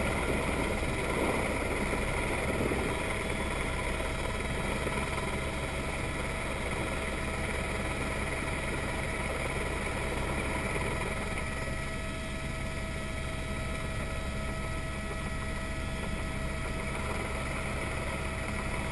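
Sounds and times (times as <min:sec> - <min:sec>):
constant whining tones: 0:00.0 - 0:18.9
helicopter engine and rotor drone: 0:00.0 - 0:18.9.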